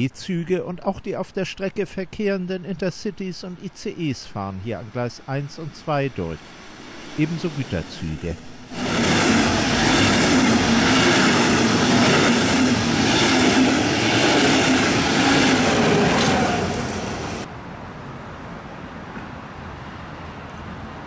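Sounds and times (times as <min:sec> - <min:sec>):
train passing at speed: 0:03.5 - 0:21.0.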